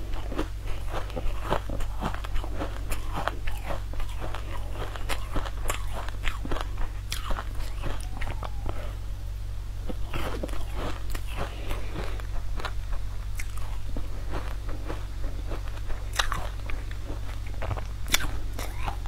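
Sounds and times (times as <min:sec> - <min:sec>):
crunching and chewing sweet: 0:00.0 - 0:09.0, 0:09.8 - 0:19.0
steady low hum: 0:00.0 - 0:19.0.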